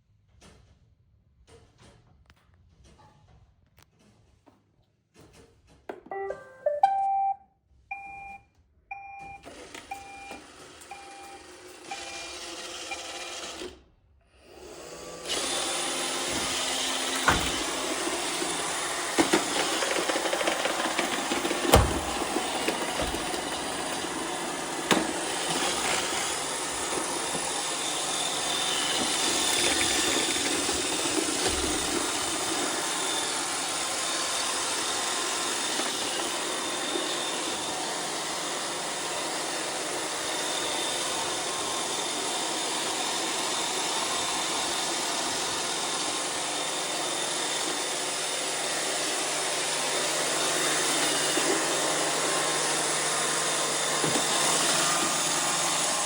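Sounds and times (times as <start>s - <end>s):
robot vacuum whirring: 9.4s - 13.8s, 14.4s - 56.0s.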